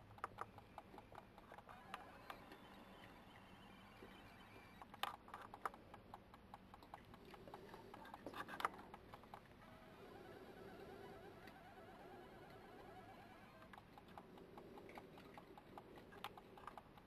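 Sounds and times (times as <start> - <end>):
animals eating with crunches: 0.0 - 17.0.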